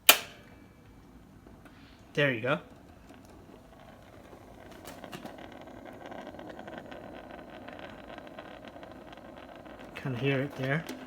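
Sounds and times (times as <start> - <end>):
gas heater burner hissing: 0.0 - 11.0.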